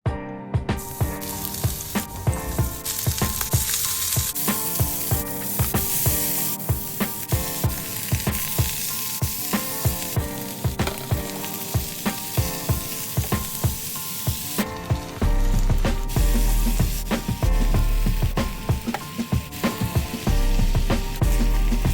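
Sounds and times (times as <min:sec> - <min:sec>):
background music with a beat: 0:00.1 - 0:21.9
food sizzling in oil: 0:00.8 - 0:21.9.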